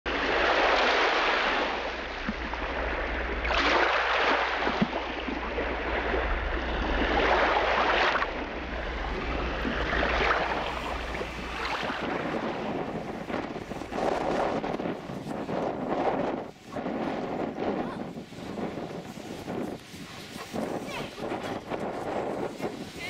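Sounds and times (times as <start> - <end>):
surf rushing: 0.1 - 23.0
wind rumble on microphone: 0.1 - 23.0.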